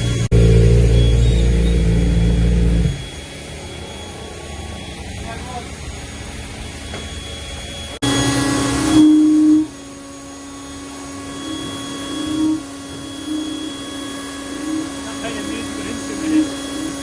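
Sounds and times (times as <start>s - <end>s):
steady mechanical drone: 0.0s - 17.0s.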